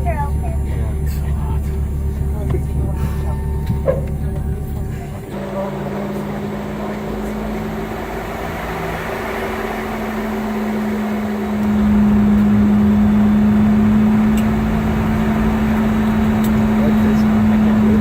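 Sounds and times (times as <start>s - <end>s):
aircraft cabin engine hum: 0.0s - 18.0s.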